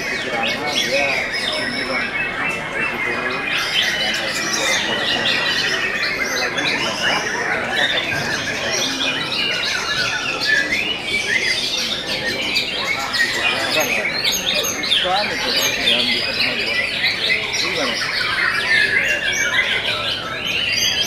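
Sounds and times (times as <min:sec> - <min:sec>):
birds singing whistles and trills: 0:00.0 - 0:21.0.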